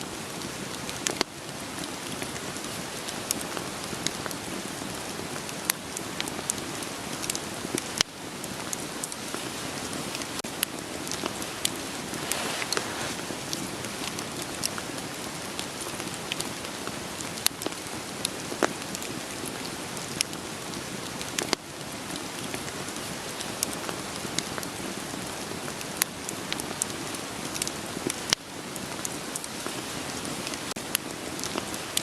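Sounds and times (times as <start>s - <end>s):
rain hiss: 0.0s - 32.0s
wood fire crackling: 0.0s - 32.0s.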